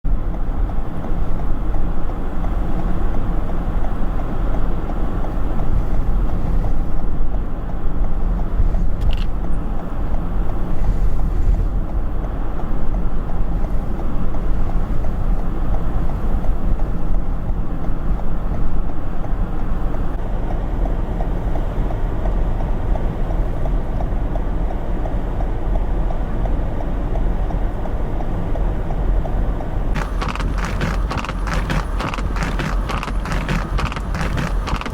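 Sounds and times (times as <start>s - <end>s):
vehicle rumble: 0.1s - 34.9s.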